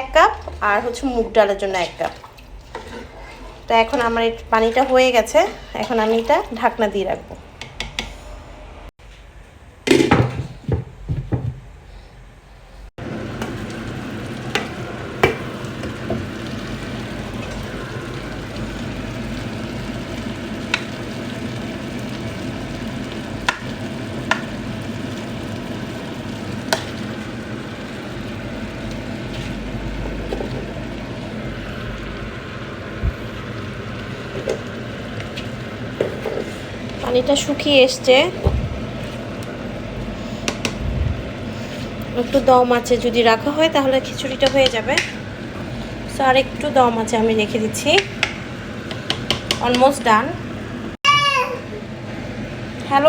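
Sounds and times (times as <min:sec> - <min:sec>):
food sizzling and bubbling in pot: 0:00.0 - 0:08.2, 0:12.9 - 0:53.0.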